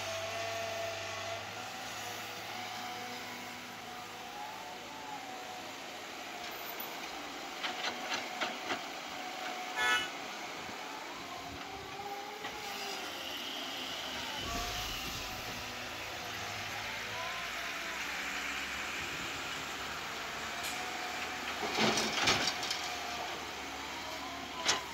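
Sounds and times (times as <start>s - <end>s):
excavator engine and hydraulics: 0.0s - 24.9s.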